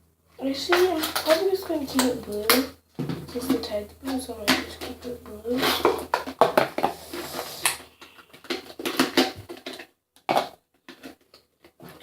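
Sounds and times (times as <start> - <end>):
small objects knocking and clattering: 0.5 - 12.0.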